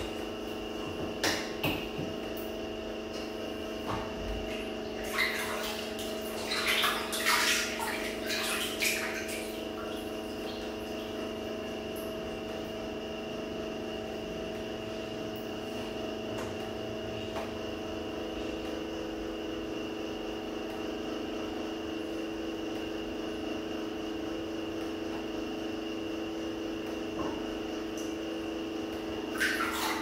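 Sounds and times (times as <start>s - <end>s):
mechanical hum with tones: 0.0s - 30.0s.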